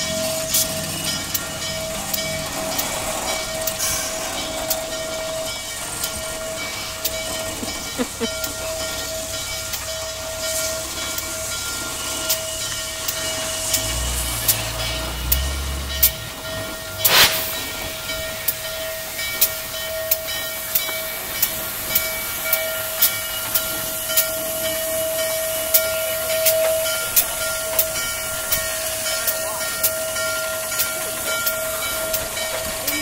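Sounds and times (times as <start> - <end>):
steady whine: 0.0 - 33.0
steam hissing: 0.0 - 33.0.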